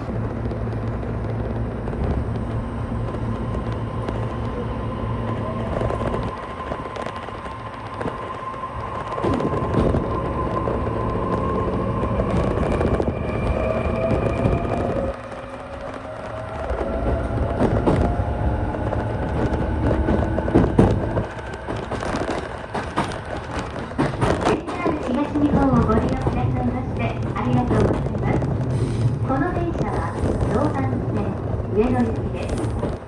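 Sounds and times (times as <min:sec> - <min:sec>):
electric train rumble: 0:00.0 - 0:33.0.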